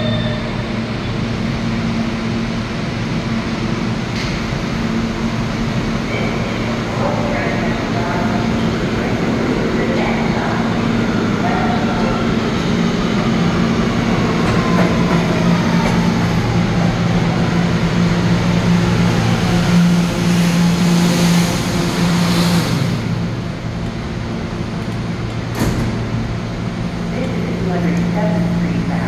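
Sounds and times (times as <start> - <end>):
subway train motor whine: 0.0 - 29.0.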